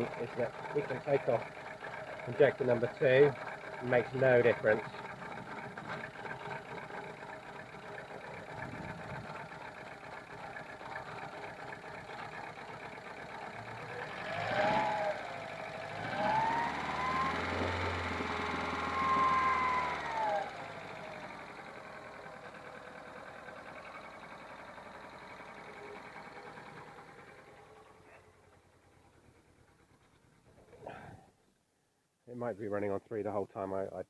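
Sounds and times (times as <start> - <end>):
car engine revving: 0.0 - 28.4
car engine idling roughly: 0.0 - 31.2.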